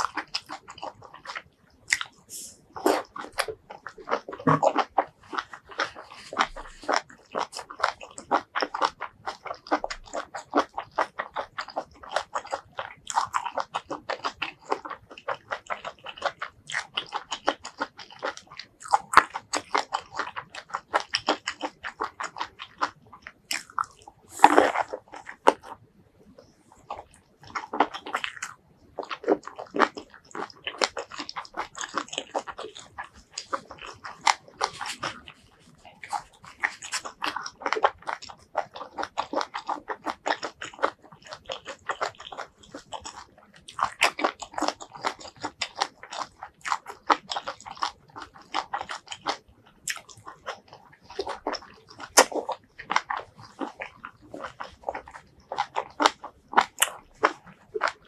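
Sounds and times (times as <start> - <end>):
wet crunchy chewing: 0.0 - 58.0.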